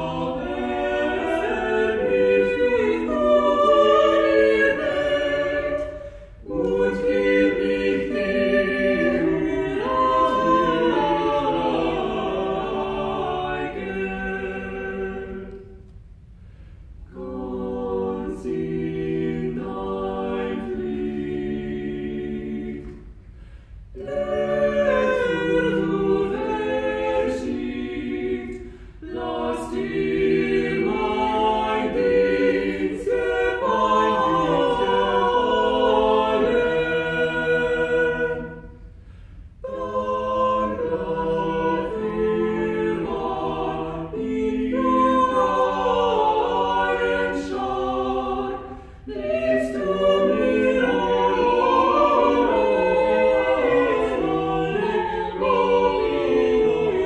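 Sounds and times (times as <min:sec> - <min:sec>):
vocal quartet singing in harmony: 0:00.0 - 0:57.0.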